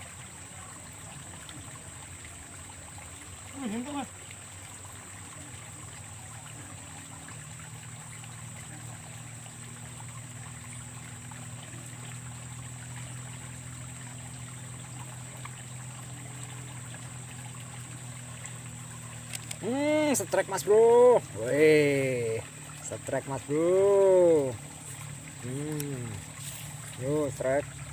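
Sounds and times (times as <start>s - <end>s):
water trickling in a ditch: 0.0s - 27.9s.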